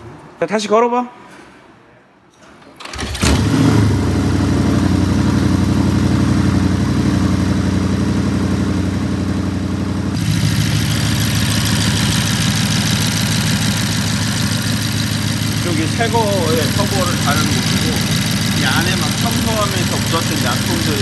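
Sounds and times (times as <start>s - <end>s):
car engine idling: 4.2s - 21.0s.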